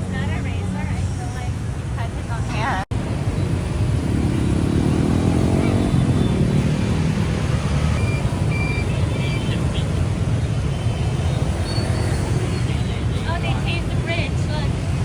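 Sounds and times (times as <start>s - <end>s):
motor scooters and cars passing: 0.0s - 15.0s.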